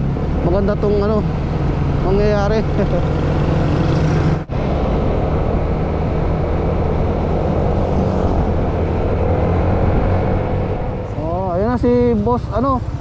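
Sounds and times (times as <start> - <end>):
scooter engine hum: 0.0 - 13.0
wind and road noise: 0.0 - 13.0.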